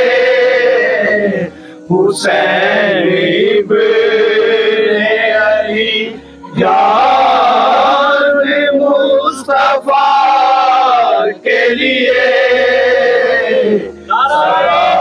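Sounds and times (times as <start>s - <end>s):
men chanting a lament in chorus: 0.0s - 15.0s.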